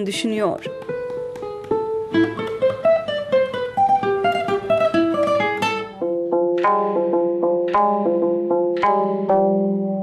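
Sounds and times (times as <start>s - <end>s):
acoustic guitar plucked melody: 0.0s - 10.0s.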